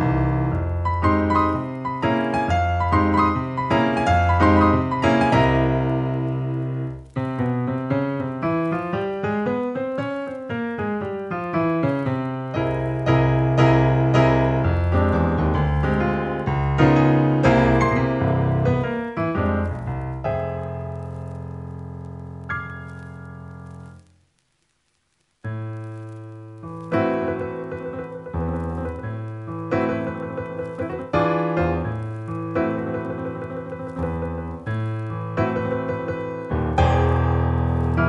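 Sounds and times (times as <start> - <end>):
piano music: 0.0 - 24.0, 25.6 - 38.0.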